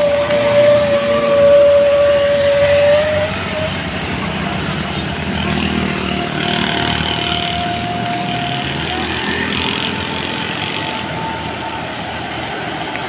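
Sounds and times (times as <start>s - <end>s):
engine running with high whine: 0.0s - 13.0s.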